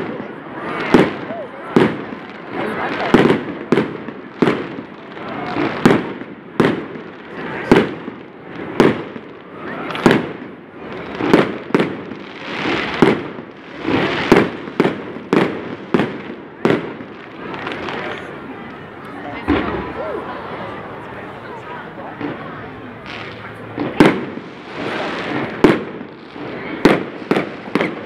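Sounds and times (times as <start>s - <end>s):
fireworks bursting with bangs: 0.0s - 28.0s.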